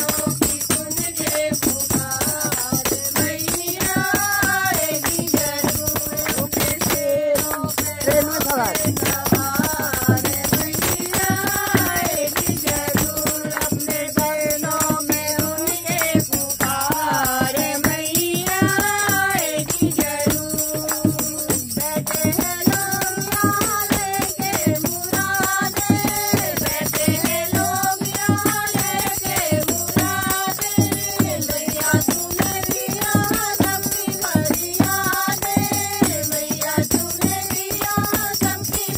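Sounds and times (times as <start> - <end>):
rhythmic hand clapping: 0.0 - 38.9
women singing devotional song: 0.0 - 38.9.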